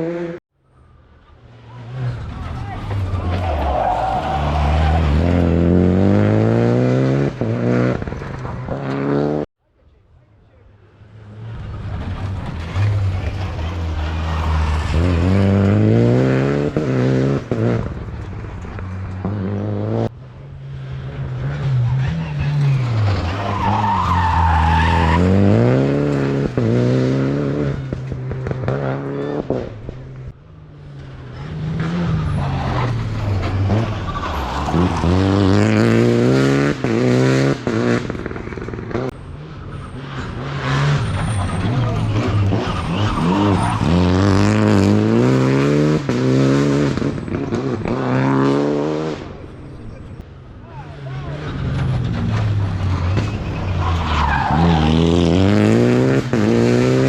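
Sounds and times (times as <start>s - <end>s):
rally car engine accelerating: 1.3s - 9.5s, 11.1s - 50.2s, 50.9s - 57.0s.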